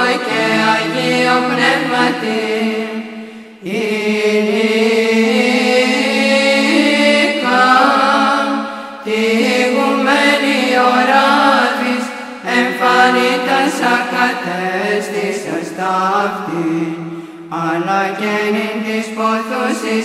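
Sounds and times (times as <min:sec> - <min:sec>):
melismatic vocal chant: 0:00.0 - 0:20.0.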